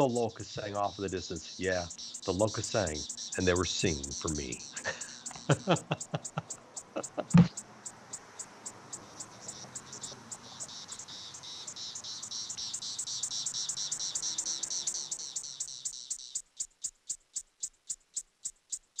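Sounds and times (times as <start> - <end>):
cicadas pulsing chorus: 0.0 - 16.7.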